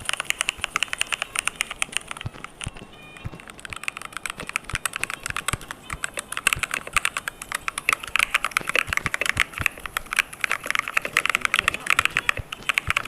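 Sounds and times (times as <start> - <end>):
typing on mechanical keyboard: 0.0 - 13.0.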